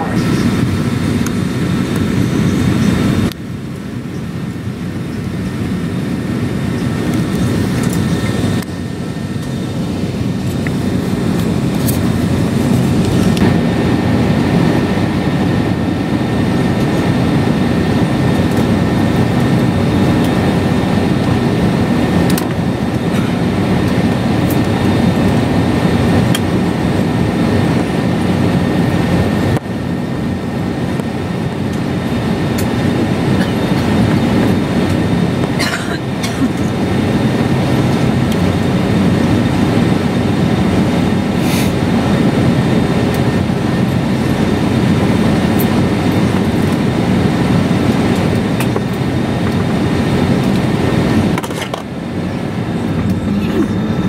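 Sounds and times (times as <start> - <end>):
aircraft cabin low rumble: 0.0 - 54.0.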